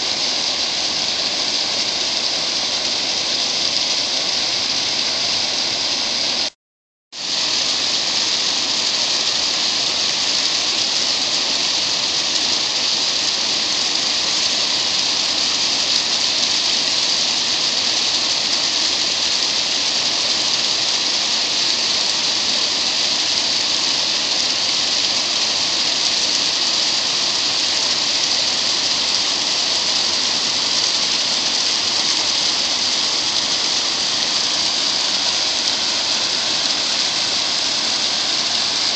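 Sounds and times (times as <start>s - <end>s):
river water rushing over dam: 0.0s - 6.5s, 7.2s - 38.9s.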